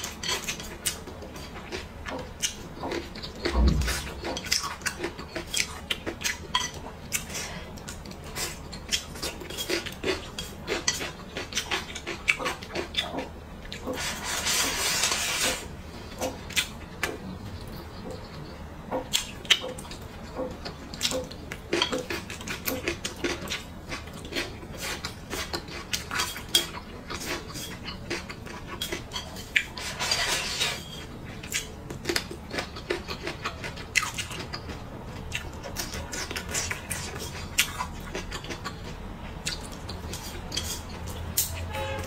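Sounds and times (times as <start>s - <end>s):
wet chewing and smacking: 0.0s - 14.0s, 16.1s - 29.9s, 30.8s - 41.6s.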